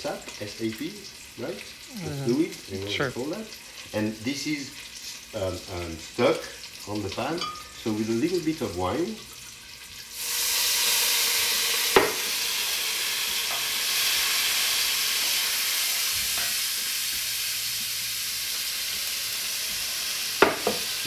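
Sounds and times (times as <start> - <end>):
wine sizzling in a hot pan: 0.0 - 21.0.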